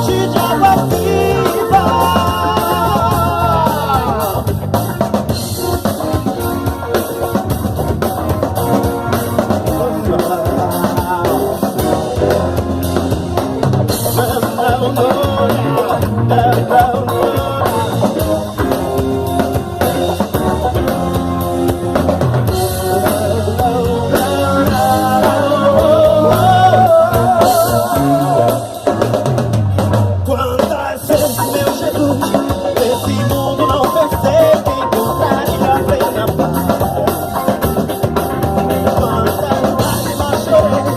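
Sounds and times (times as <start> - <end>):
bass guitar: 0.0 - 40.9
drum kit: 0.0 - 40.9
electric guitar: 0.0 - 40.9
keyboards: 0.0 - 40.9.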